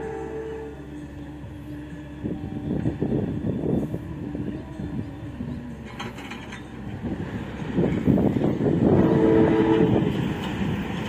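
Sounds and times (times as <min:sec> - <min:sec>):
distant train hum: 0:00.0 - 0:11.0
train rumble: 0:00.0 - 0:11.0.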